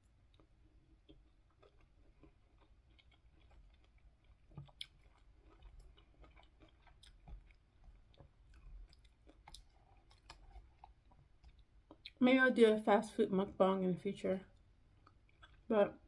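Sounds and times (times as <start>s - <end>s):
faint chewing of fruit: 0.0s - 12.2s, 14.4s - 16.0s.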